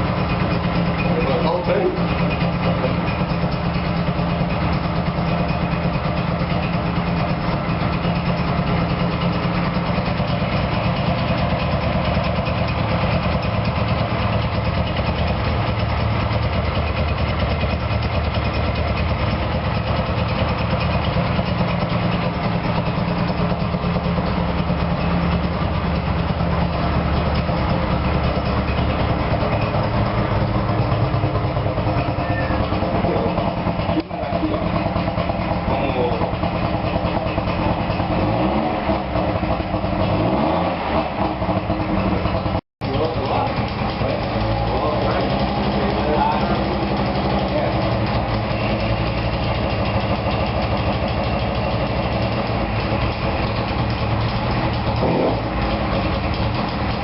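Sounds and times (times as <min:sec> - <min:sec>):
two-stroke engine idling: 0:00.0 - 0:57.0.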